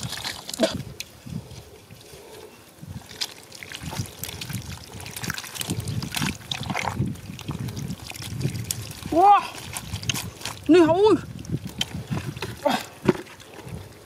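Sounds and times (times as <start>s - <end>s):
mud and water squelching: 0.0s - 14.0s.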